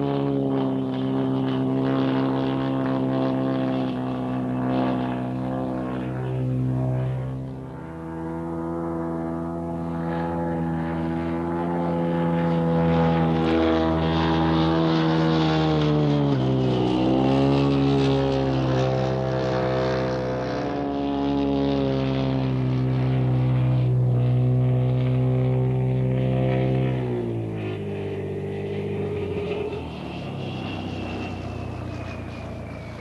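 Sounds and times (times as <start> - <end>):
model aircraft engine and propeller: 0.0 - 33.0.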